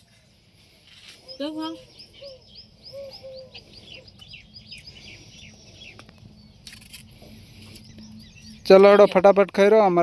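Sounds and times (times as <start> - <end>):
bird chirping: 1.0 - 10.0.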